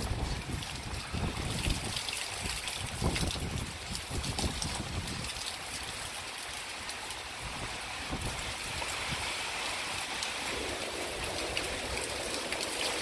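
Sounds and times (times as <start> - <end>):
gusting wind: 0.0 - 13.0
heavy rain hissing: 0.0 - 13.0.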